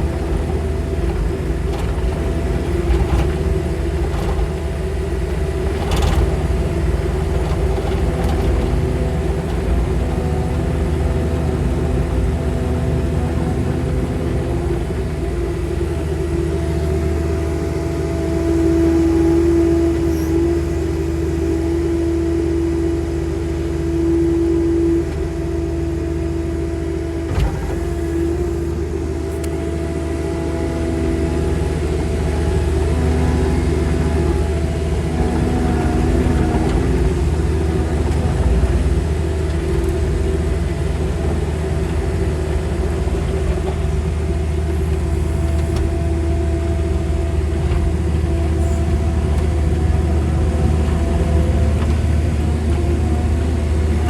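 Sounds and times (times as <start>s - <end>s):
loader engine rumble: 0.0s - 54.0s.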